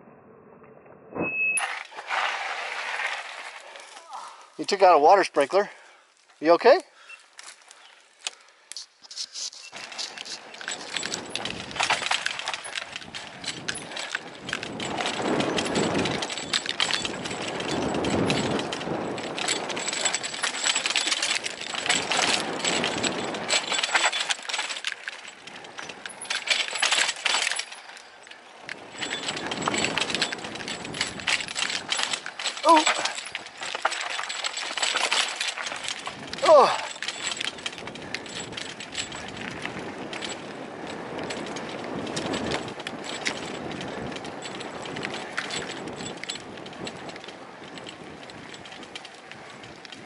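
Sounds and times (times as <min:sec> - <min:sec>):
tyres crunching over dirt and rocks: 0:01.6 - 0:05.6, 0:06.2 - 0:50.0
chain and frame rattling: 0:07.4 - 0:50.0.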